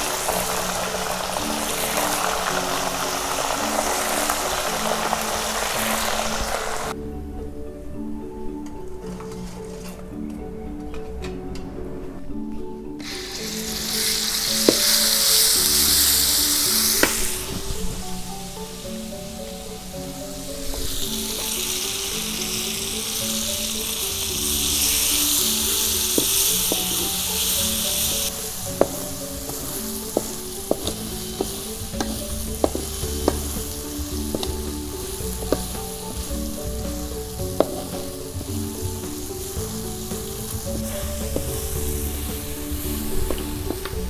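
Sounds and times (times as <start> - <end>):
paste sizzling in a wok: 0.0 - 7.0, 13.0 - 20.0, 20.9 - 43.7
soft background music: 0.0 - 44.0.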